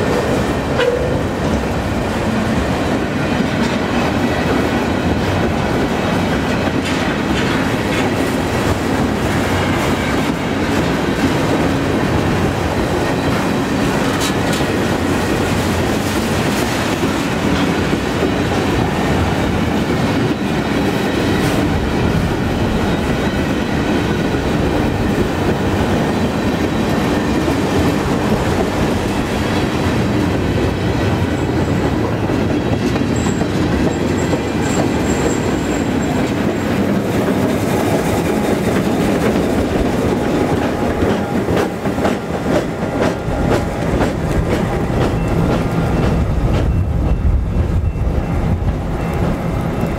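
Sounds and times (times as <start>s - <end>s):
train wheels clattering on rails: 0.0s - 49.9s.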